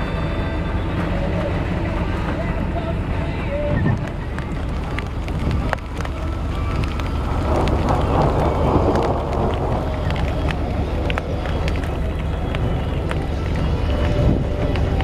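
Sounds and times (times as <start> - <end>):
storm wind on microphone: 0.0 - 15.0
rain taps: 0.6 - 15.0.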